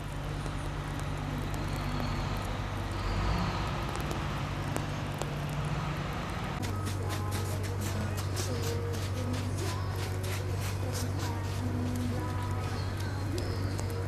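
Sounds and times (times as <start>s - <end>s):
vehicle passing: 0.0s - 13.8s
traffic with engine hum: 0.0s - 14.0s.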